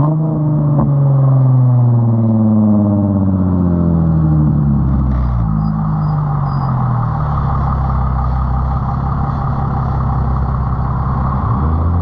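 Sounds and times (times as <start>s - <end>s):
car exhaust engine rumbling: 0.0s - 12.0s.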